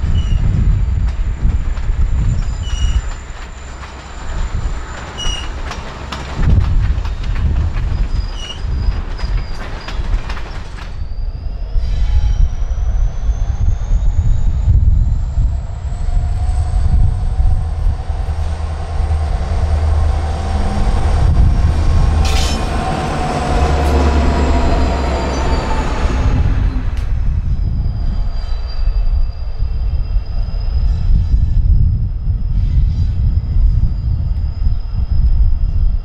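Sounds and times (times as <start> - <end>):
diesel locomotive engines rumbling: 0.0 - 36.0
steel wheels squealing on rail: 0.0 - 36.0.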